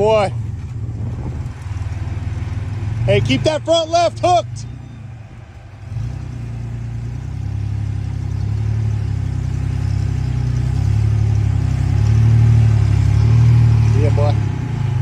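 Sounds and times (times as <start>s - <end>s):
buggy engine pulling under load: 0.0s - 15.0s.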